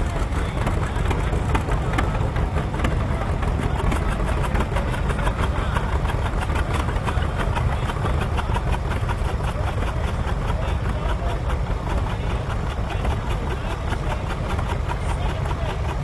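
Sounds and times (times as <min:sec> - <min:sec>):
tractor engine with clatter: 0:00.0 - 0:16.0.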